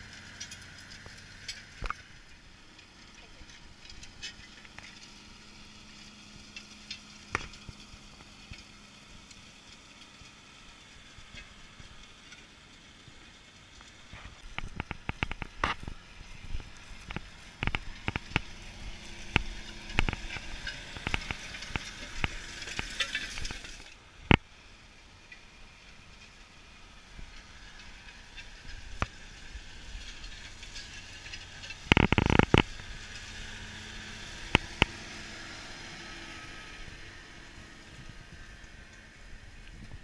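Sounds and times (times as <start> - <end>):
distant tractor engine hum: 0.0 - 40.0
crackling and clicks near microphone: 0.4 - 5.2, 6.3 - 24.5, 25.3 - 33.5, 34.3 - 35.4.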